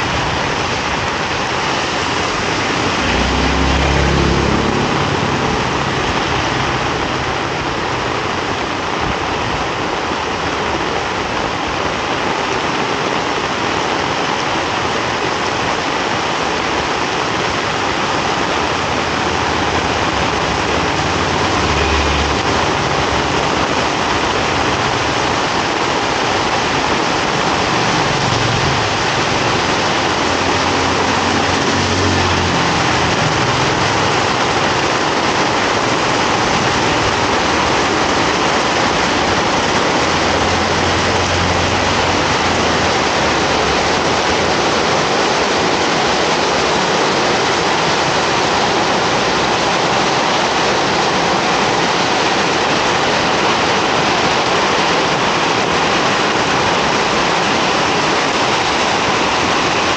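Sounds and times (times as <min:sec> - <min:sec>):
heavy rain on street: 0:00.0 - 0:59.9
passing vehicle engines humming: 0:00.1 - 0:09.8, 0:18.2 - 0:59.9.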